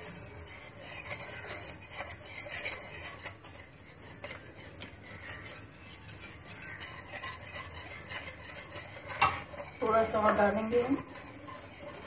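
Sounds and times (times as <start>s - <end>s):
whisk clinking against pot: 0.0s - 12.0s
whisk swishing in mixture: 0.0s - 12.0s.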